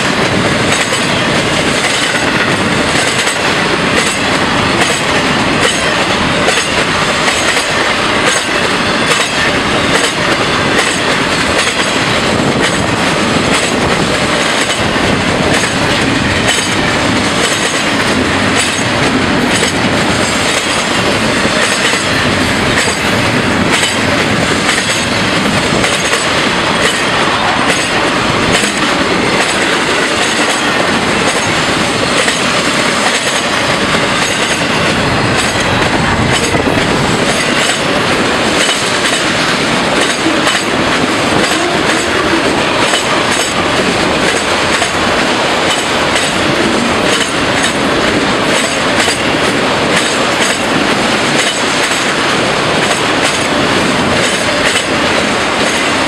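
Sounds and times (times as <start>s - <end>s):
train wheels rumbling on rails: 0.0s - 56.0s
wheels clickety-clack: 0.0s - 56.0s.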